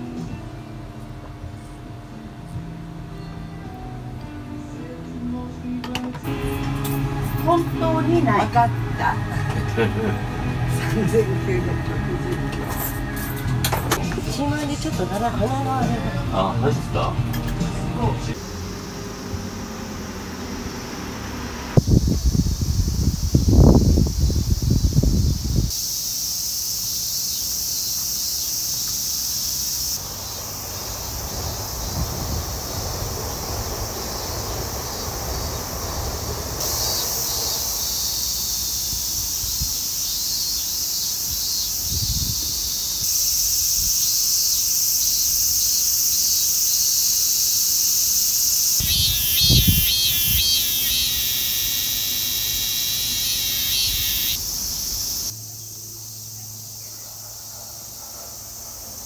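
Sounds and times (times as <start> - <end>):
cicadas buzzing loudly: 6.3 - 17.4, 18.3 - 59.0
pulsing cicada song: 6.3 - 17.4, 18.2 - 59.0.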